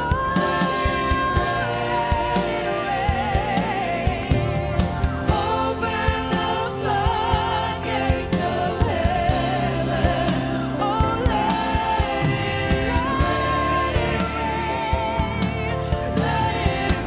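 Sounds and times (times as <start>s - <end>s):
instrumental accompaniment with beat: 0.0s - 17.0s
woman singing with vibrato: 0.0s - 17.0s.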